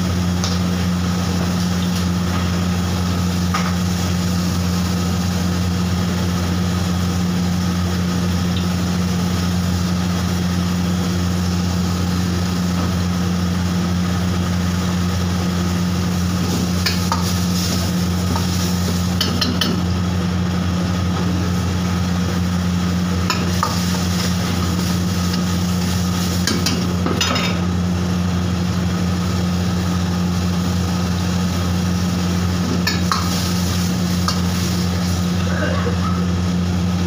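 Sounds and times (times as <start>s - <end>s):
steady low hum: 0.0s - 37.0s
gravy sizzling in a wok: 0.1s - 35.4s.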